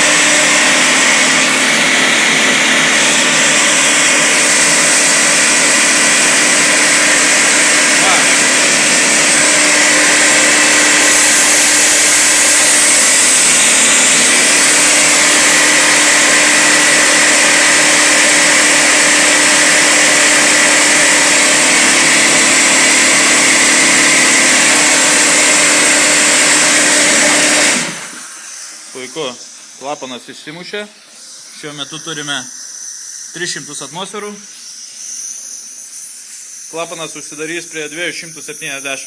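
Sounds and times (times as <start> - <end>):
air compressor humming and whining: 0.0 - 39.0.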